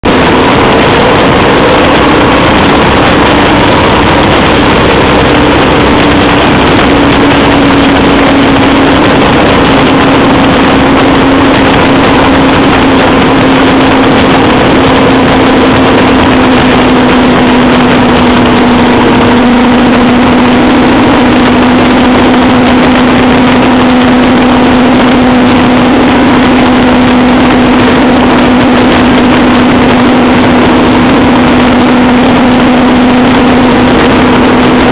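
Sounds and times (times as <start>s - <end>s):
loud rushing wind noise: 0.0s - 34.9s
motorcycle engine cruising: 0.0s - 34.9s.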